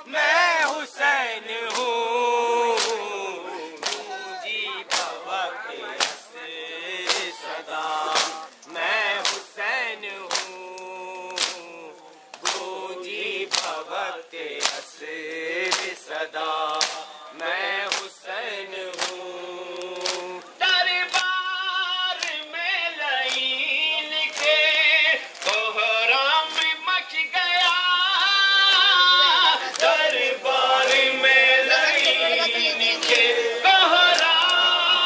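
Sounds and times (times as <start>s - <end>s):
men chanting in chorus: 0.0s - 35.0s
rhythmic chest-beating slaps: 0.0s - 35.0s.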